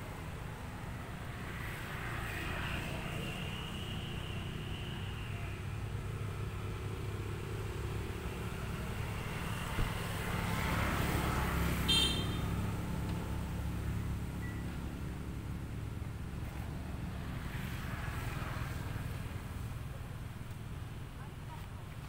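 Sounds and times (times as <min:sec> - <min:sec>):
motor vehicle rumble passing: 0:00.0 - 0:22.0.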